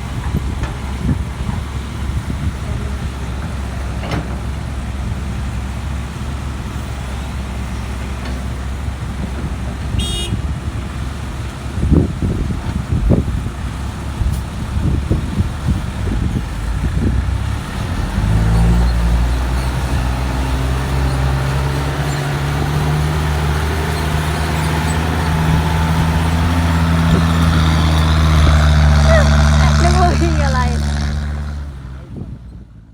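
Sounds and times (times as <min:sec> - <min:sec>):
wind buffeting microphone: 0:00.0 - 0:03.8, 0:08.9 - 0:31.5
heavy diesel engine running: 0:00.0 - 0:32.9.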